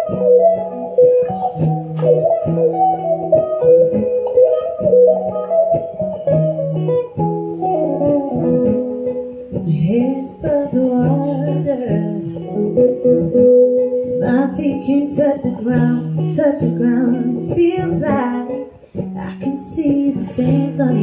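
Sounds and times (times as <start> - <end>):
guitar music: 0.0 - 21.0.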